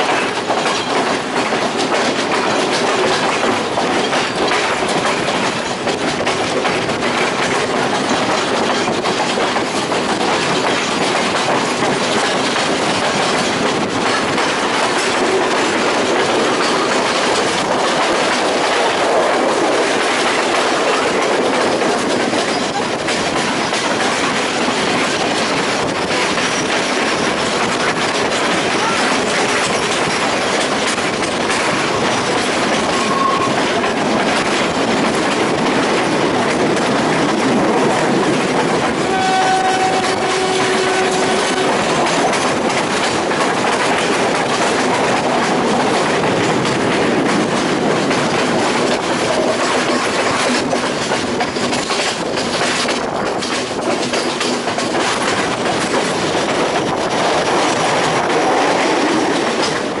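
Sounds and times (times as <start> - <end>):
train wheels on rails: 0.0 - 60.0.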